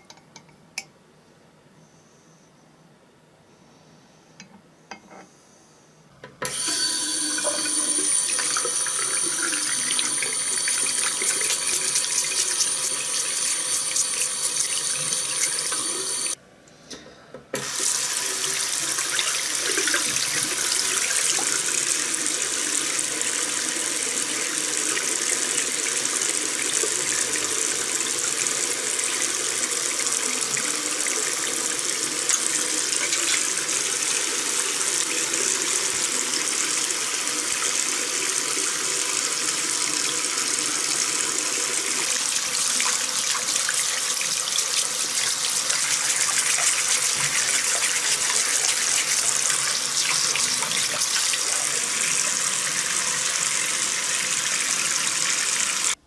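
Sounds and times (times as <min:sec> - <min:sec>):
tap water running into sink: 0:06.4 - 0:16.4, 0:17.6 - 0:56.0.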